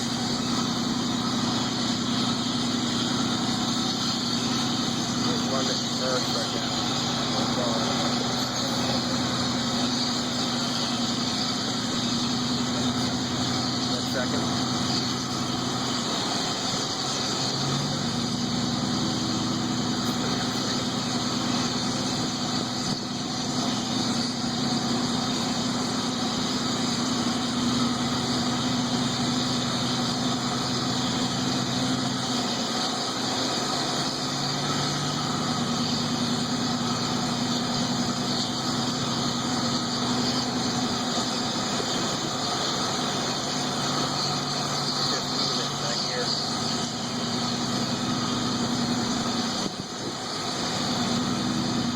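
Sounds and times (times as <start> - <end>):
truck engine under load: 0.0 - 51.9.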